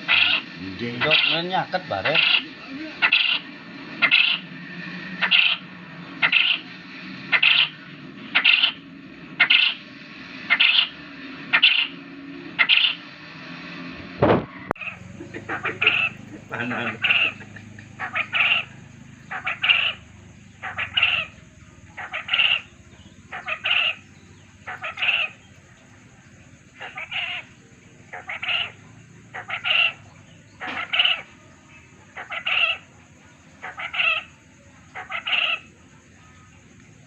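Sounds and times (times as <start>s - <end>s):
quail calling: 0.0s - 9.9s, 10.5s - 12.0s, 12.6s - 13.1s, 14.6s - 36.6s.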